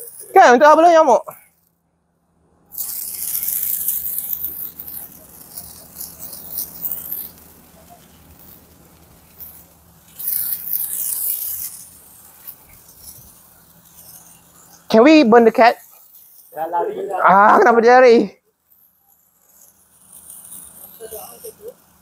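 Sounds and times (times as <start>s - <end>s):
sparklers fizzing and crackling: 0.0s - 1.7s, 2.6s - 22.0s.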